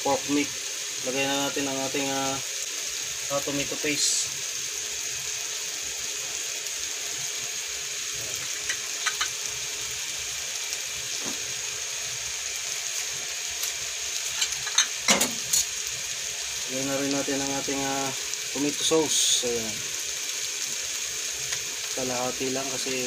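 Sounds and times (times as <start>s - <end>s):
meat sizzling in sauce: 0.0s - 23.0s.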